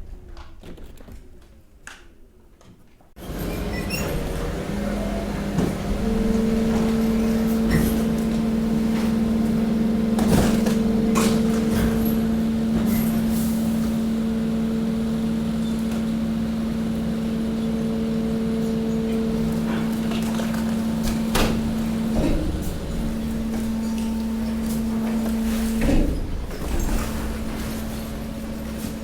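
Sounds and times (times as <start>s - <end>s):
hydraulic pump humming: 3.2s - 29.0s.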